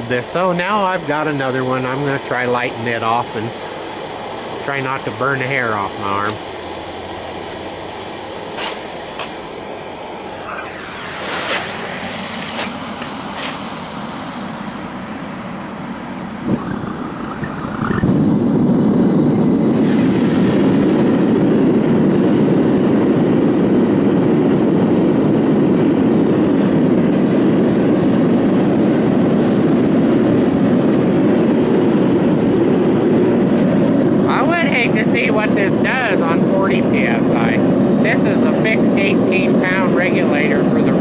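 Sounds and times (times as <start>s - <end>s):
propane burner roaring: 0.0s - 41.0s.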